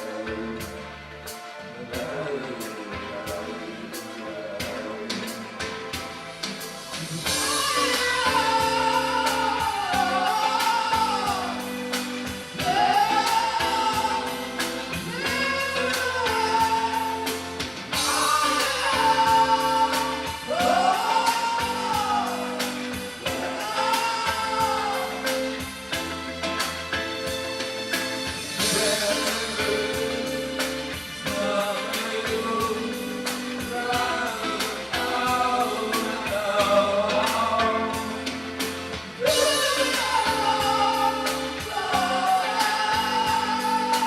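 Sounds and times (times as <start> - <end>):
song with singing voice: 0.0 - 44.0.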